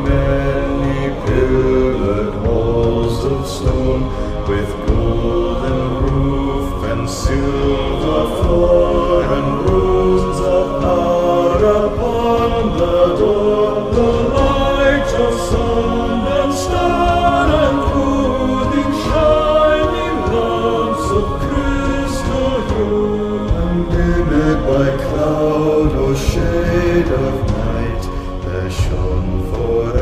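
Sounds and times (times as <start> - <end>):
choir singing slow song: 0.0 - 30.0.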